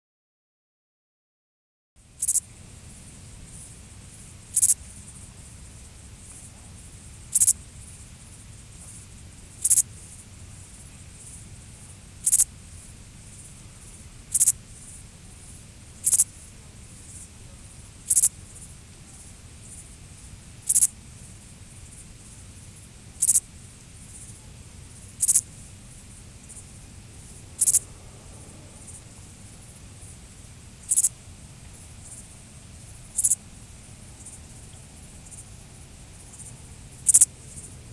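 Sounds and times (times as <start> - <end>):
faint steady hiss: 2.0 - 37.9
grasshopper chirping: 2.1 - 28.0, 28.8 - 37.8.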